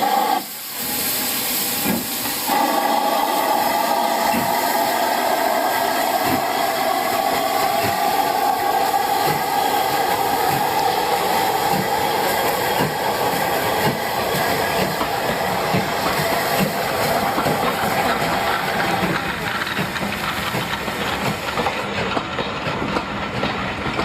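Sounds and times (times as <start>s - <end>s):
train running on rails: 0.0s - 24.0s.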